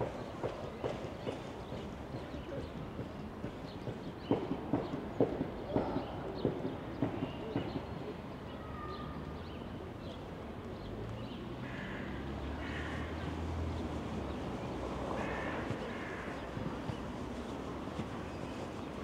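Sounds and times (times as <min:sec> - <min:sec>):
distant city traffic hum: 0:00.0 - 0:19.0.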